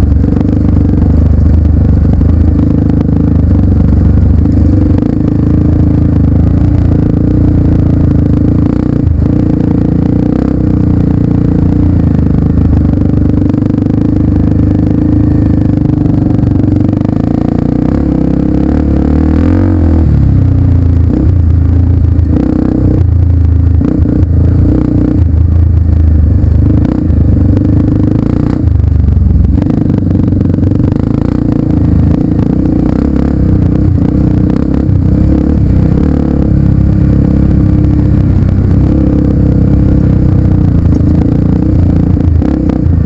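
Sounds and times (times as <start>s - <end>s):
vehicle engine running loudly: 0.0s - 43.0s.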